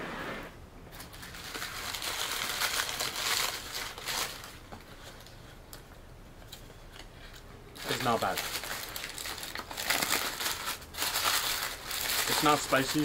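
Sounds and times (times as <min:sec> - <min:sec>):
paper wrapper crinkling: 0:00.9 - 0:05.6, 0:06.5 - 0:13.0.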